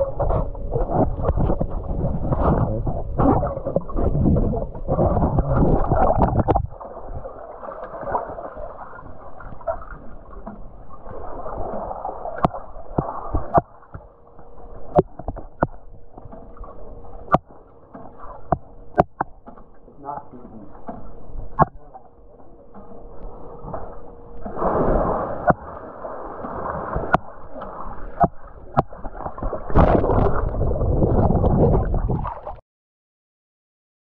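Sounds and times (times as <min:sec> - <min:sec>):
muffled wash of water: 0:00.0 - 0:32.6
water churning and gurgling underwater: 0:00.0 - 0:32.6.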